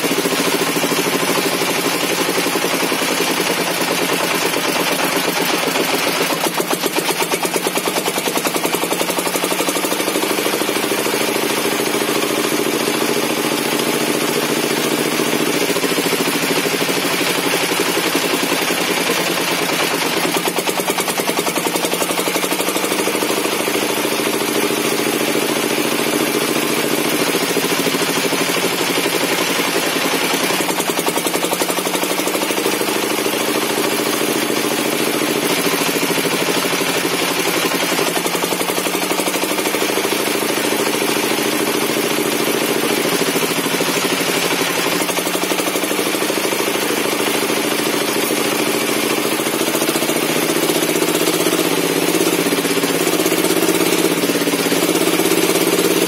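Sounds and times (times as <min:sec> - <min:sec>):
engine-driven circular saw running: 0:00.0 - 0:56.0.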